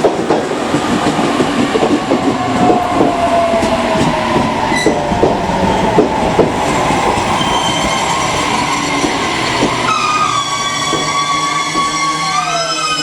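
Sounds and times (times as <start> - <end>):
train rumble: 0.0 - 13.0
train wheels clacking: 0.0 - 13.0.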